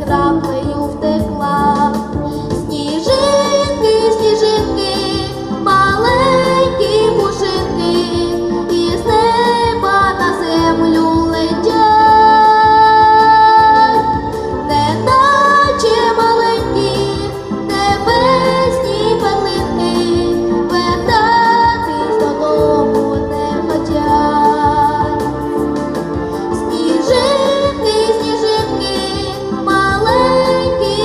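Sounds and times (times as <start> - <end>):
woman singing: 0.0 - 25.3, 26.6 - 31.0
instrumental accompaniment with beat: 0.0 - 31.0.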